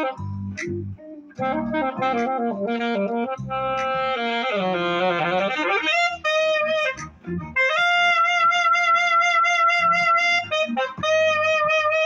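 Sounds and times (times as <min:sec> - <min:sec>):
saxophone melody: 0:00.0 - 0:12.0.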